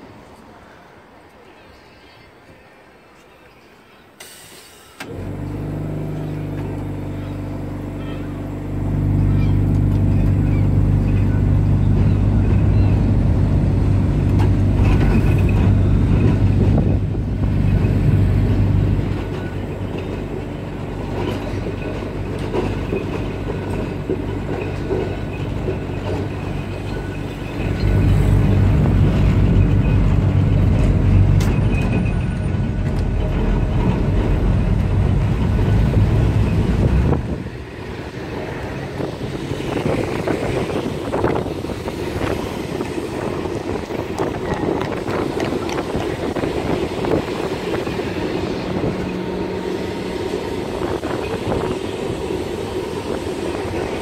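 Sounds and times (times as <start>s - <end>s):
wheels rumbling on rails: 4.8s - 54.0s
tram electric motor hum: 5.0s - 54.0s.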